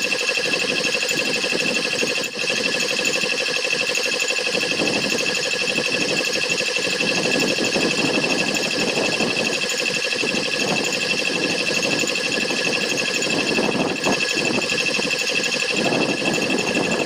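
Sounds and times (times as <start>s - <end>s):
air compressor pump pulsing: 0.0s - 17.0s
motor whine: 0.0s - 17.0s.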